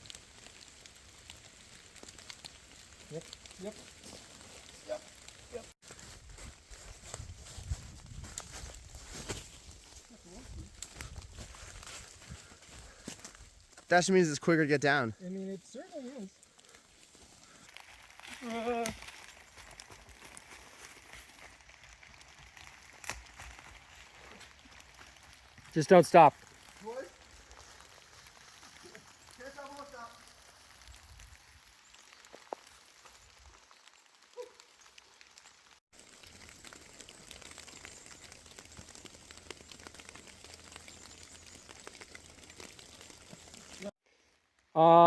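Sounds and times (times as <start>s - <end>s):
rain patter: 0.0s - 44.0s
rustling of brush: 0.0s - 44.0s
small crackles: 0.0s - 44.8s.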